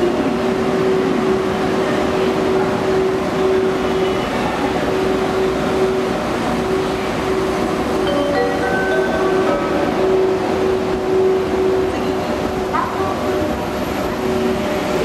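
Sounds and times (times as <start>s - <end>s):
noisy station din: 0.0s - 15.0s.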